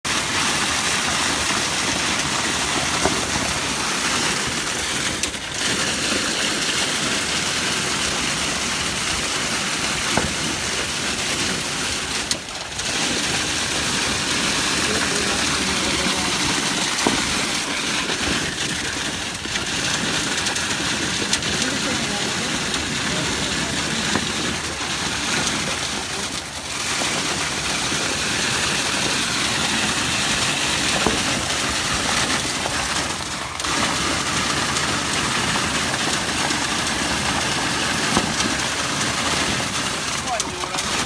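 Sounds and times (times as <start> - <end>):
concrete pump running: 0.0 - 41.0
concrete rushing from hose: 0.0 - 41.0.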